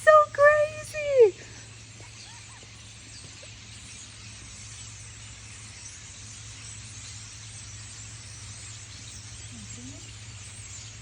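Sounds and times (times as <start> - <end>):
flock of birds chattering: 0.0 - 11.0.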